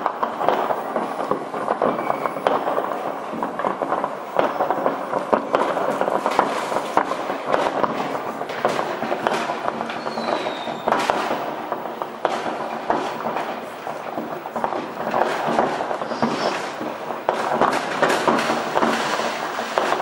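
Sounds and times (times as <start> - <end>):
fireworks crackling and banging: 0.0 - 20.0.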